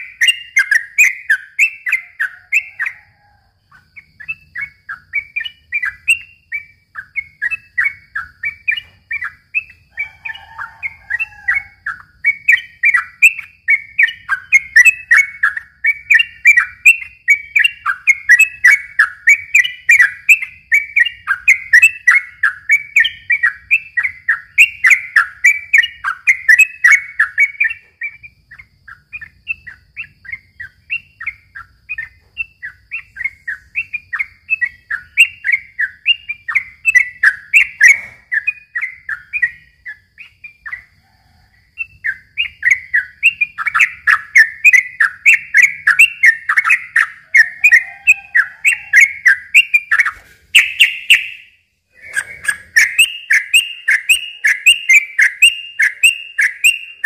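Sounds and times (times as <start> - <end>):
bulbul chattering song: 0.0 - 57.0.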